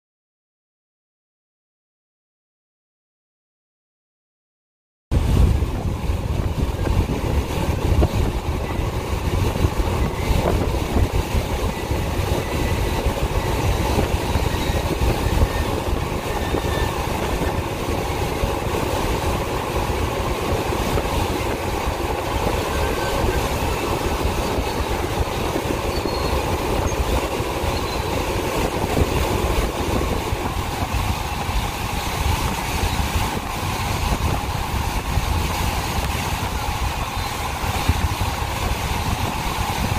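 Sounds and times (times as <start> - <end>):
freight train wheels rumbling: 5.1 - 39.9.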